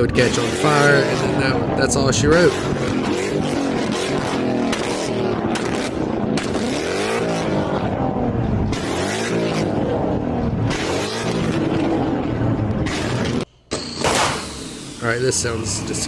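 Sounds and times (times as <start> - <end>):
car engine revving loudly: 0.0 - 13.4.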